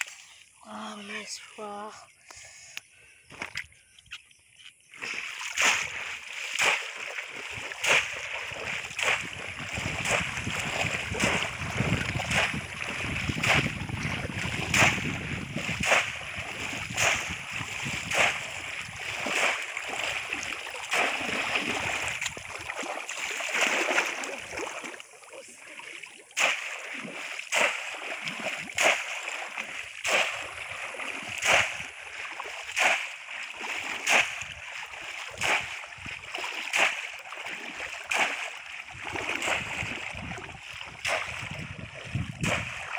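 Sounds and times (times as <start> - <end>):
water sloshing: 3.2 - 42.9
fish trap splashing into water: 4.9 - 25.0, 25.8 - 42.9.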